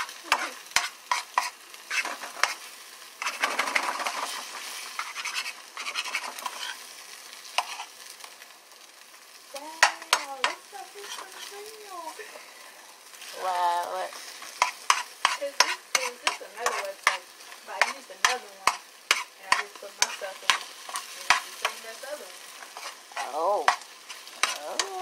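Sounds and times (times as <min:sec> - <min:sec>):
turner scraping and tapping pan: 0:00.0 - 0:08.4, 0:09.6 - 0:12.2, 0:14.1 - 0:25.0
eggs sizzling in a frying pan: 0:00.0 - 0:25.0.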